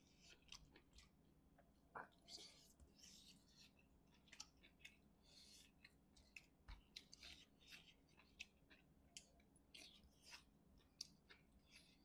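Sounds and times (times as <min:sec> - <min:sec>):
chewing: 0:00.0 - 0:01.2, 0:02.0 - 0:12.0
wet clicks and smacks of eating: 0:00.2 - 0:02.3, 0:03.7 - 0:12.0.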